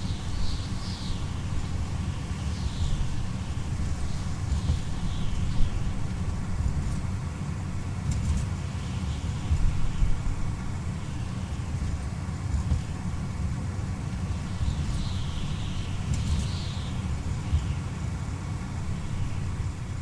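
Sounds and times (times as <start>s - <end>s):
road noise: 0.0s - 20.0s
wind buffeting: 0.0s - 20.0s.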